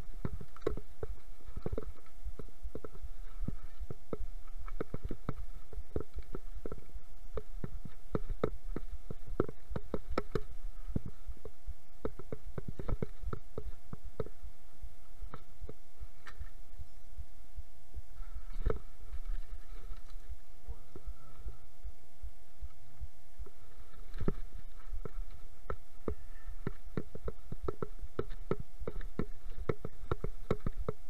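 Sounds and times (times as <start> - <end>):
constant low rumble: 0.0 - 31.0.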